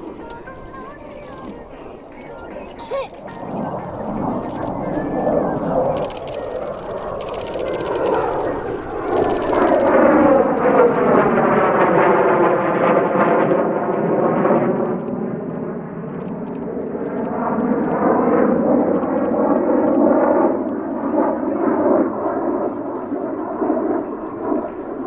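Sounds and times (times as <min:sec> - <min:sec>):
jet engines overhead: 0:00.0 - 0:25.0.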